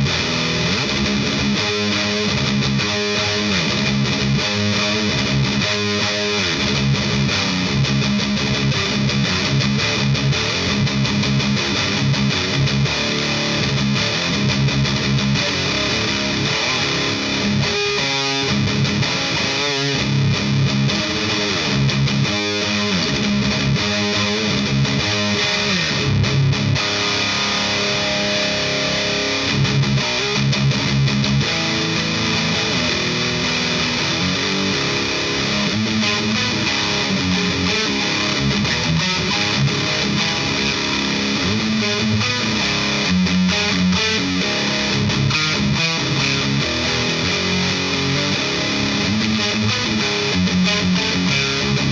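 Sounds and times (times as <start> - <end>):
distorted electric guitar riffs: 0.0 - 51.9.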